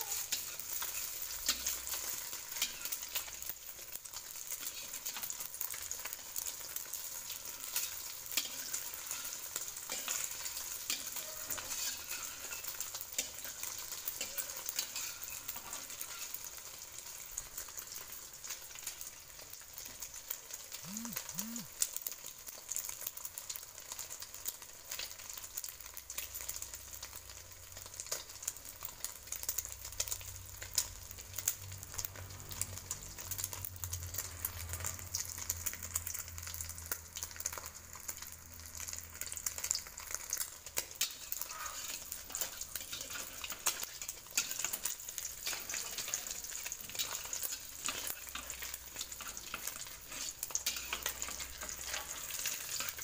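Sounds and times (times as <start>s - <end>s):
egg sizzling in hot oil: 0.0s - 53.0s.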